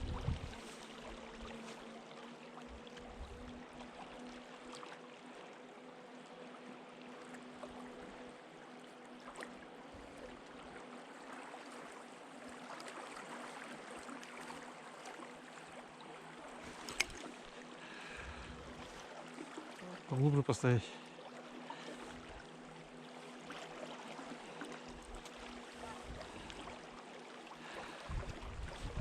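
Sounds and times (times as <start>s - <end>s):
faint steady hum: 0.0s - 29.0s
flowing river water: 0.0s - 29.0s.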